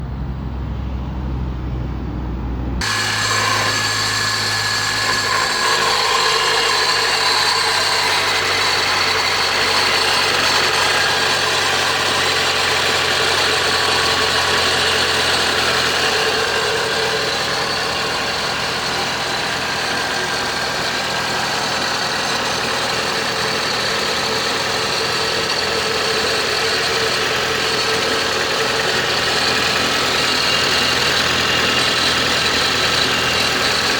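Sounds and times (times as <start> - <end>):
car engine idling: 2.8 - 33.9
high-pitched whine and grinding: 2.8 - 33.9.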